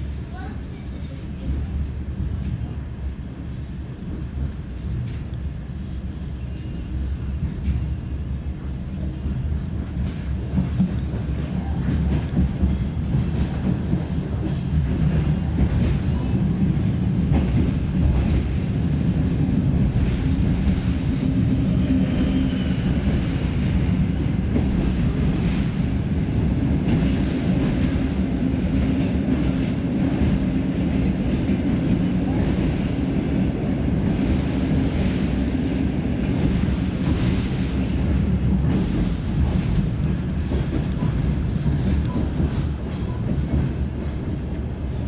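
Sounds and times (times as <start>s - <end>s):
train rumbling on track: 0.0s - 45.0s.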